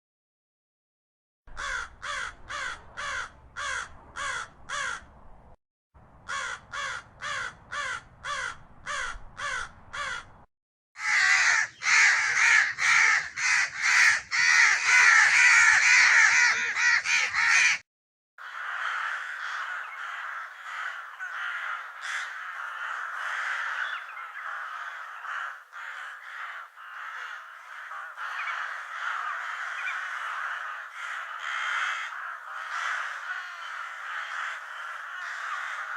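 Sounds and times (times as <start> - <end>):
crow cawing: 1.5 - 5.1, 6.3 - 10.3, 11.0 - 17.8, 18.4 - 35.9
flock of crows cawing: 1.5 - 5.1, 6.3 - 10.3, 11.0 - 17.8, 18.4 - 35.9.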